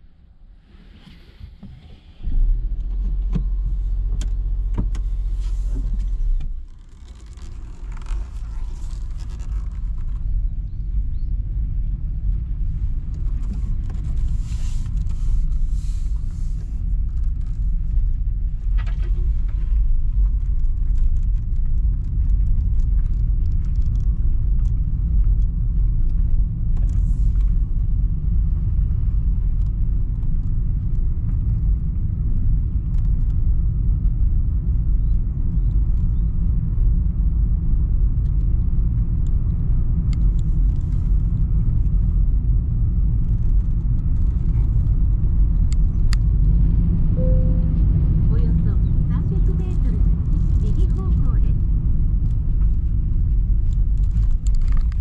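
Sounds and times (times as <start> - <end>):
car road rumble: 0.0 - 55.0.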